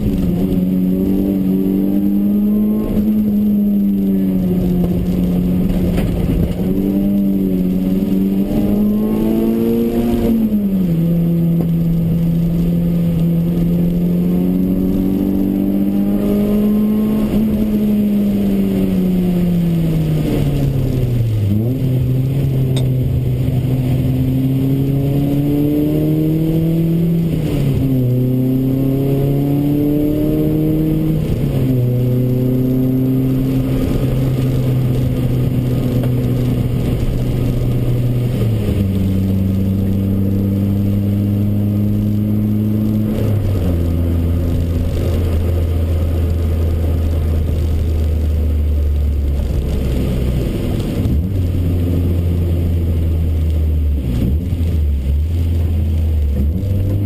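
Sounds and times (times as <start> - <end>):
car engine running hard: 0.0 - 57.0
road and tyre noise: 0.0 - 57.0.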